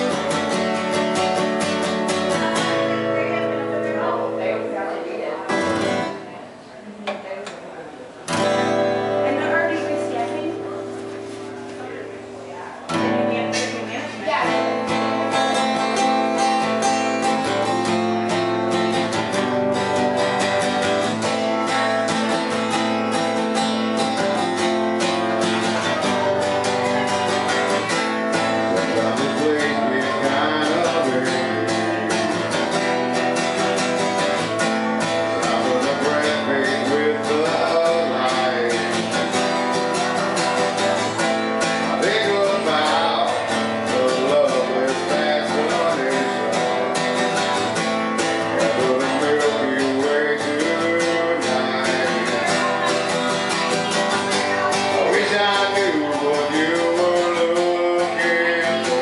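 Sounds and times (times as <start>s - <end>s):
man singing: 0.0s - 3.0s, 14.4s - 59.0s
acoustic guitar strumming: 0.0s - 7.3s, 8.1s - 59.0s.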